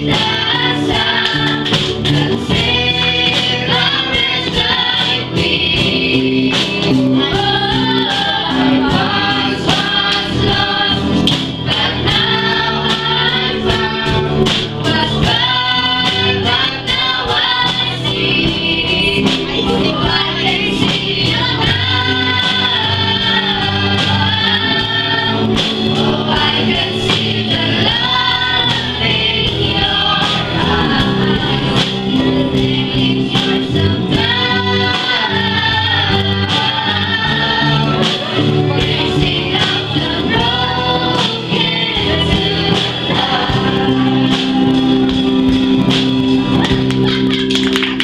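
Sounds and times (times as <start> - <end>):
amplified instrumental backing: 0.0 - 48.0
young voices singing together: 0.0 - 48.0.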